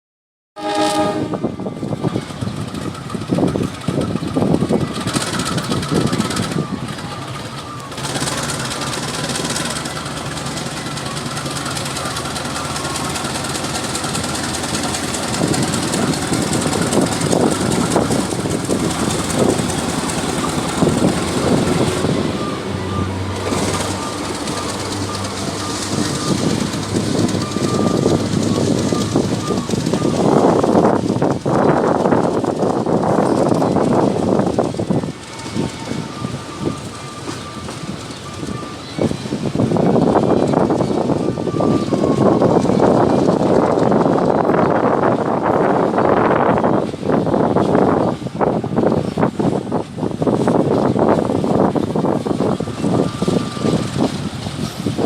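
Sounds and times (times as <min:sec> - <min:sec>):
diesel locomotive engine: 0:00.6 - 0:55.0
train wagons clattering on rails: 0:00.9 - 0:55.0.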